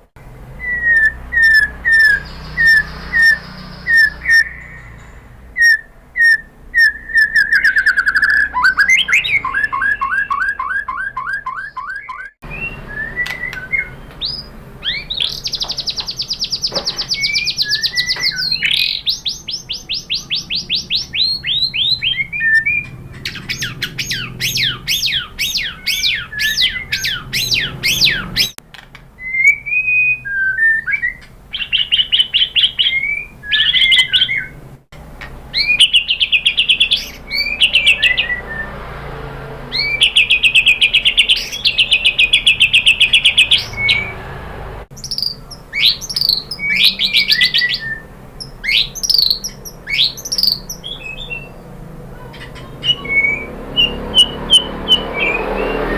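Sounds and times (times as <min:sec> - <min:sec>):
bird singing whistled notes and trills: 0:00.0 - 0:28.6, 0:29.2 - 0:34.6, 0:35.5 - 0:39.1, 0:39.7 - 0:44.3, 0:44.9 - 0:55.9.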